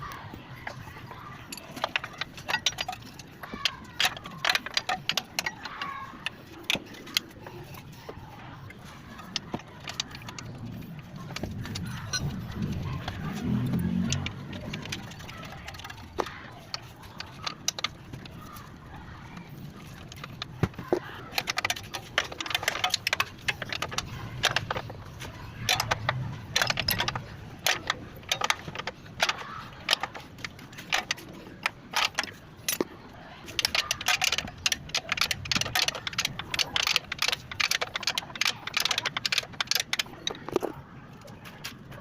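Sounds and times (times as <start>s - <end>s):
metallic knocking and rattling: 0.6s - 8.3s, 8.9s - 40.8s.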